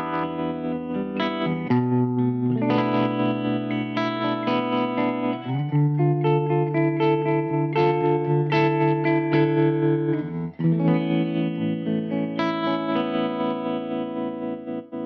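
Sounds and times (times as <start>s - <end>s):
electric guitar chords with tremolo: 0.0s - 15.0s.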